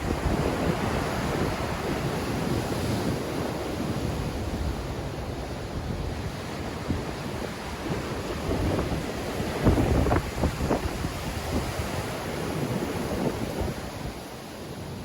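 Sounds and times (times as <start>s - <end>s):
wind buffeting microphone: 0.0s - 14.2s
sea surf washing ashore: 0.0s - 15.0s.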